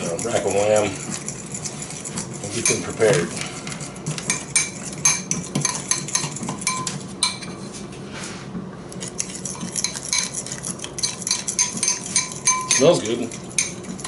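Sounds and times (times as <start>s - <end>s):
utensil clinking in glass bowl: 0.0s - 7.6s, 9.0s - 14.0s.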